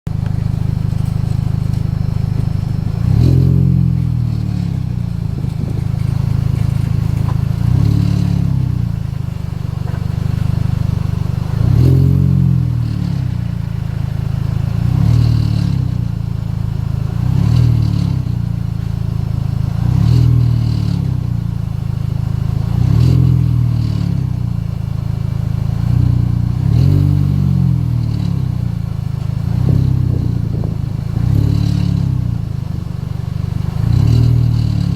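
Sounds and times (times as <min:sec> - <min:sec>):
vehicle engine droning: 0:00.1 - 0:34.9.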